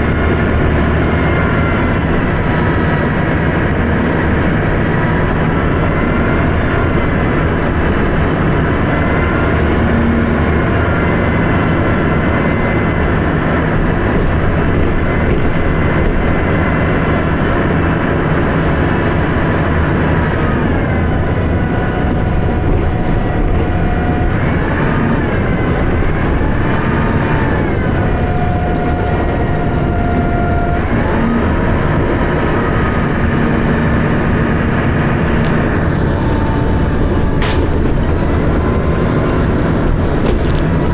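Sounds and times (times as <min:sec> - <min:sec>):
bus diesel engine rumble and whine: 0:00.0 - 0:40.9.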